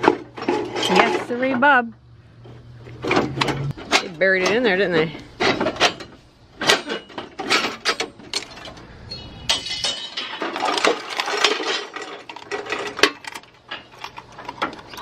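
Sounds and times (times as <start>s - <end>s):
metal scrap clanking: 0.0s - 1.6s, 3.0s - 8.8s, 9.5s - 14.8s
metal scraping rattle: 0.0s - 1.7s, 2.4s - 8.9s, 9.5s - 15.0s.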